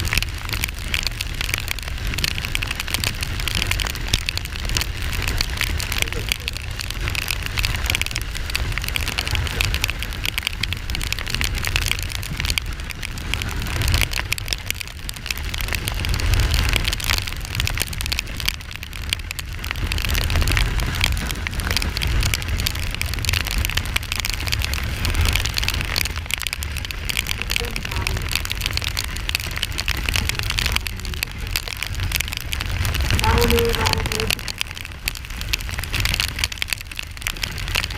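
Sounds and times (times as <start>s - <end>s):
rain hissing: 0.0s - 37.9s
wind rumbling on microphone: 0.0s - 37.9s.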